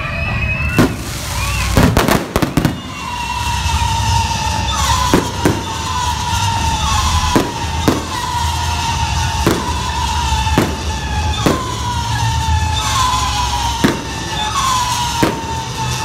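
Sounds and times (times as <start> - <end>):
firework bangs: 0.1 - 16.0.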